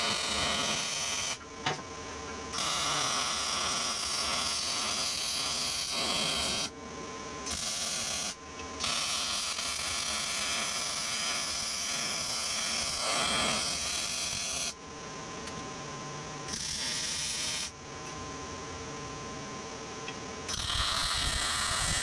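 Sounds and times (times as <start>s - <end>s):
faint welder hum: 0.0s - 22.0s.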